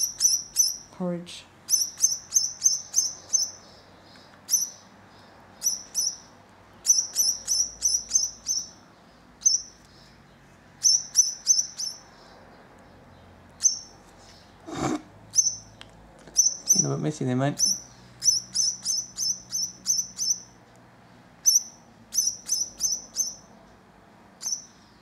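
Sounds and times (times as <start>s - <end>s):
parrot chick begging chirps: 0.0s - 1.0s, 1.6s - 14.0s, 15.2s - 20.6s, 21.4s - 23.6s, 24.3s - 25.0s.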